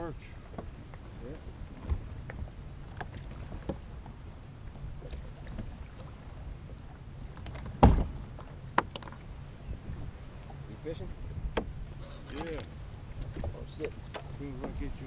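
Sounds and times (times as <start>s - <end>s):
knocks and clunks on boat deck: 0.0s - 15.0s.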